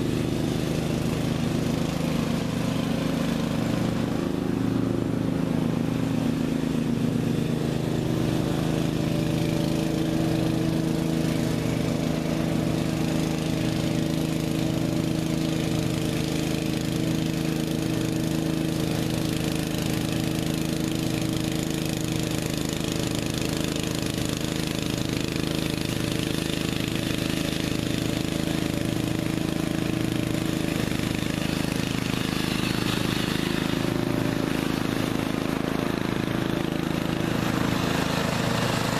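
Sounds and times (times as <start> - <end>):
riding lawn mower engine running: 0.0 - 38.9.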